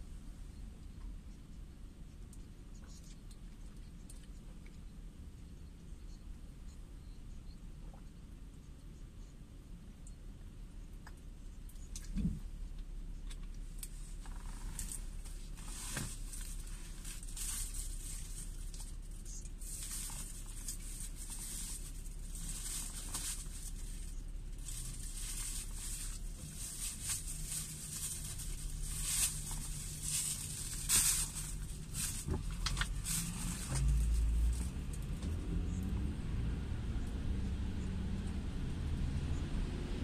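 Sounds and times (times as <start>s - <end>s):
low engine hum: 0.0s - 40.0s.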